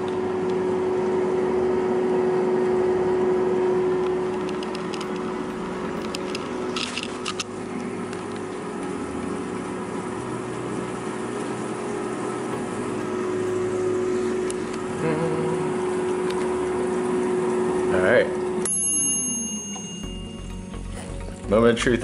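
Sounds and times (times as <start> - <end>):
air fryer fan whirring: 0.0 - 22.0.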